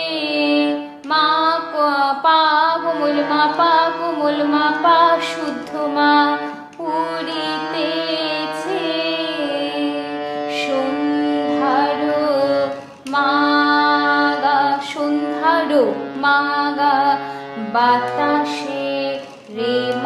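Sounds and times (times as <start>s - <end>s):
harmonium melody: 0.0s - 20.0s
woman singing: 0.0s - 20.0s.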